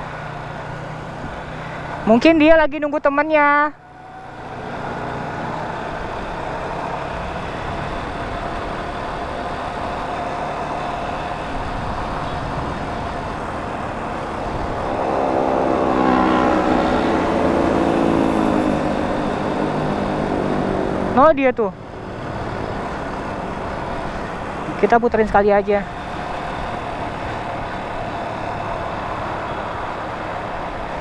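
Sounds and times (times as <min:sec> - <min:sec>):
motorcycle engine: 0:00.0 - 0:31.0
wind and road noise: 0:00.0 - 0:31.0.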